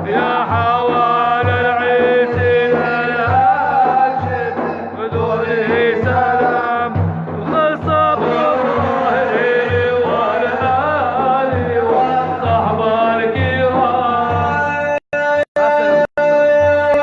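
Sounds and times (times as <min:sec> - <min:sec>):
low drum beat: 0:00.0 - 0:15.4
man chanting praise song: 0:00.0 - 0:17.0.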